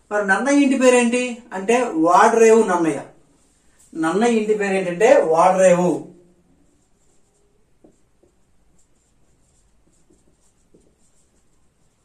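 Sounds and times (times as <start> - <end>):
marker scratching on whiteboard: 1.7 - 12.0.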